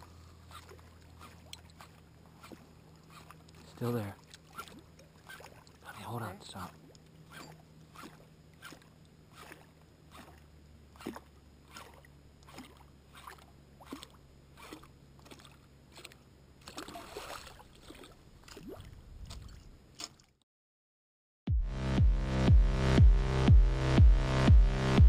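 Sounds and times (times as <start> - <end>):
low steady hum: 0.0 - 20.4
waves lapping against boat: 0.0 - 20.4.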